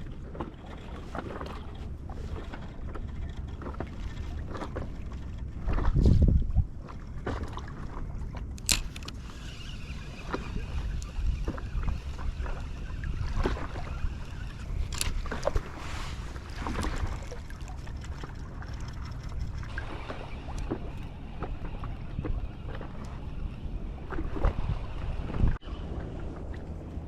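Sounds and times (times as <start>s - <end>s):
water sloshing and splashing: 0.0s - 27.0s
wind rumbling on microphone: 0.0s - 27.0s.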